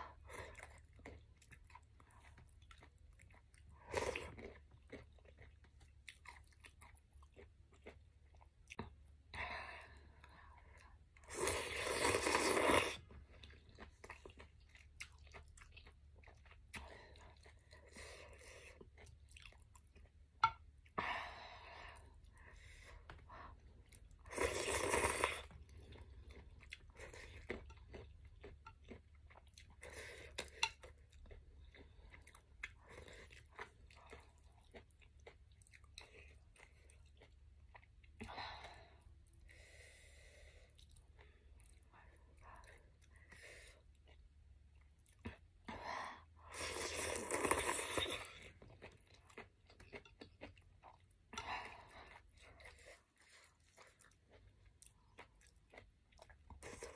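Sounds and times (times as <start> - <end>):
quiet chewing: 0.0 - 21.0, 21.9 - 56.9.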